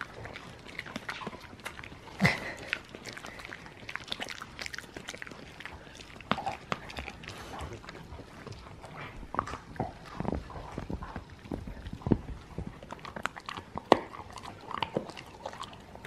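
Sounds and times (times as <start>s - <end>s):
dog chewing hard chew: 0.0s - 16.0s.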